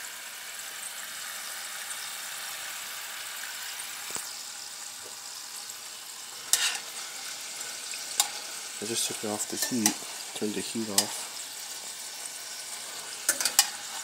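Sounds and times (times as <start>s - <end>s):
fries sizzling in oil: 0.0s - 14.0s.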